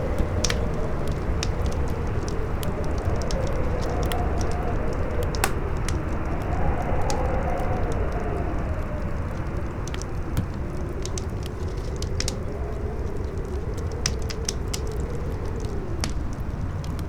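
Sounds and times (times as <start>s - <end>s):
campfire crackling and popping: 0.0s - 17.0s
wind howling: 0.0s - 17.0s.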